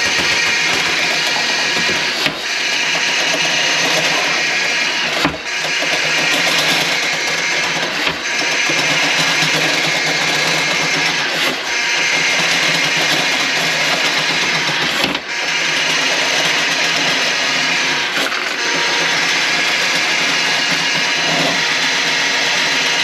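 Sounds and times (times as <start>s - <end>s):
drain-cleaning machine running: 0.0s - 23.0s.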